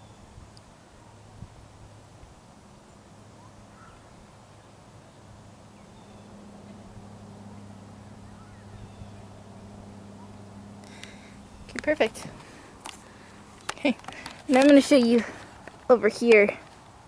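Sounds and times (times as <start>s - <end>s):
outdoor background noise: 0.0s - 17.0s
steady low hum: 0.0s - 17.0s.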